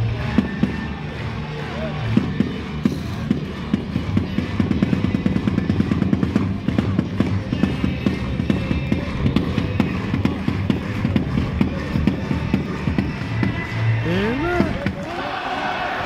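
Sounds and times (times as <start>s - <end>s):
crowd clapping: 0.0s - 16.0s
music over loudspeakers: 0.0s - 16.0s.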